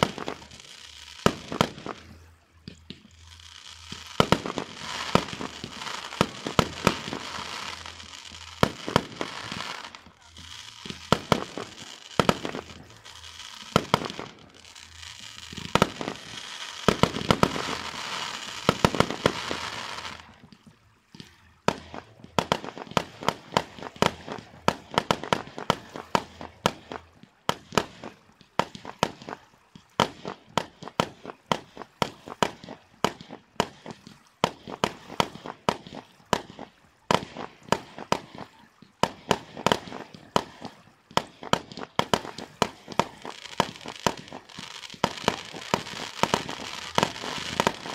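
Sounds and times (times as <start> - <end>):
fireworks bangs: 0.0 - 47.9
fireworks crackling and hissing: 0.0 - 47.9.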